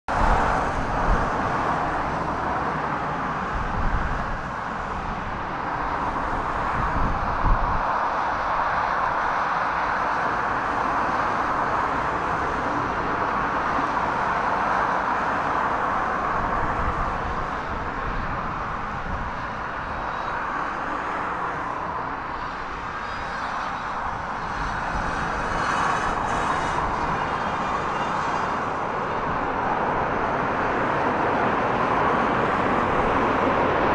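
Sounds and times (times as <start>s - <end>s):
jet engines running: 0.1s - 33.9s
wind buffeting microphone: 0.1s - 33.9s.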